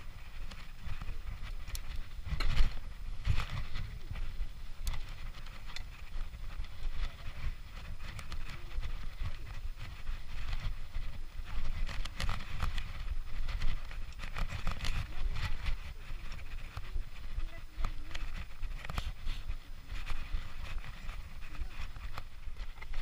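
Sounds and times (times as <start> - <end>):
bike clicks and rattles: 0.0 - 23.0
rumble of tyres and air: 0.0 - 23.0.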